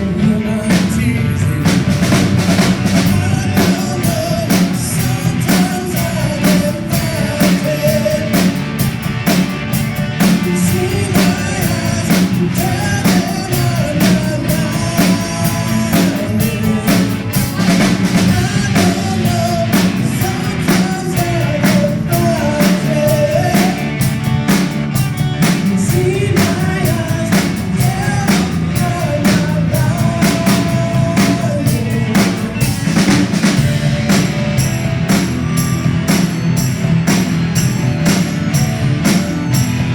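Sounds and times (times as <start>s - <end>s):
drum kit beat: 0.0s - 39.9s
live band playing: 0.0s - 39.9s.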